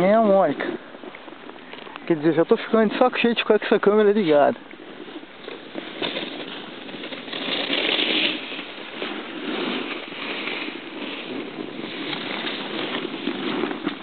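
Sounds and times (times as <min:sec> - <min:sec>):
snowboards scraping over snow: 0:00.0 - 0:01.1, 0:02.1 - 0:14.0.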